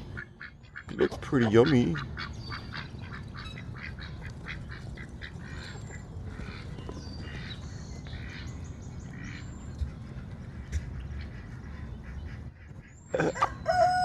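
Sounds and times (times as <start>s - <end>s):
ducks quacking: 0.0s - 14.0s
poultry calling: 0.0s - 14.0s.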